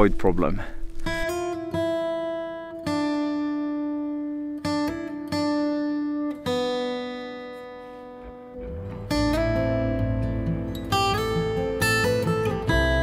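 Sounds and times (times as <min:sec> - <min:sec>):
slow acoustic guitar notes: 0:00.2 - 0:13.0.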